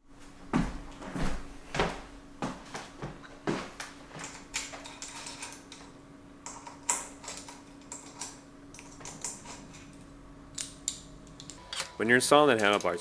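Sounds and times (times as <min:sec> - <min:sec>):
faint steady hum: 0:00.1 - 0:13.0.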